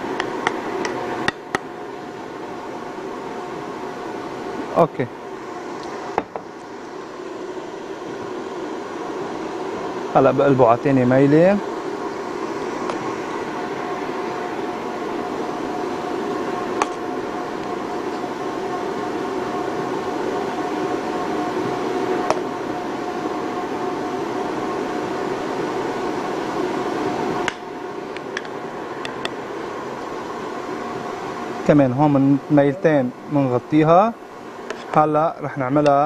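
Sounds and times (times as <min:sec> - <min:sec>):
mechanical hum: 0:00.0 - 0:36.0.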